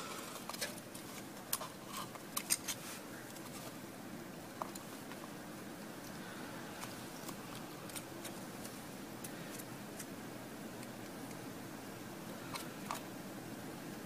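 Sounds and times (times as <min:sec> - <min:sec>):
low room noise: 0:00.0 - 0:14.0.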